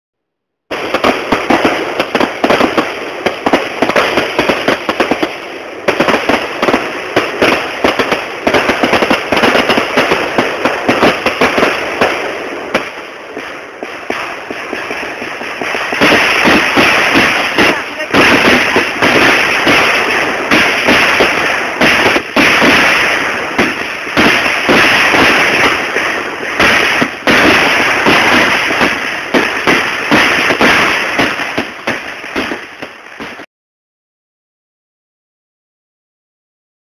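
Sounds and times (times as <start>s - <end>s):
fireworks popping and banging: 0.7s - 33.5s.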